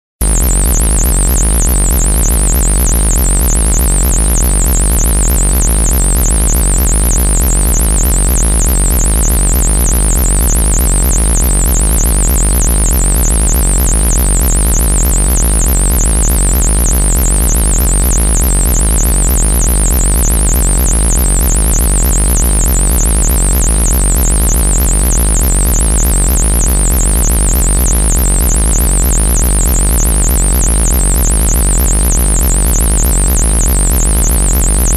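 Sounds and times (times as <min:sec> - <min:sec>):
deep drone: 0:00.2 - 0:34.9
harsh electronic buzz: 0:00.2 - 0:34.9.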